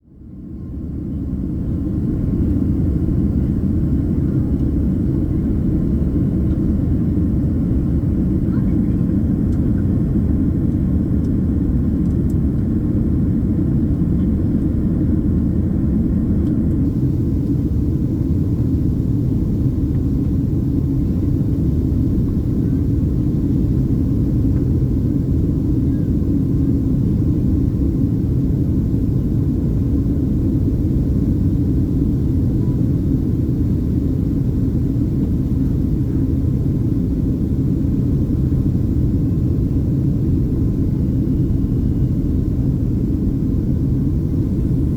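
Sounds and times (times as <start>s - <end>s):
airplane cabin roar: 0.1s - 44.9s.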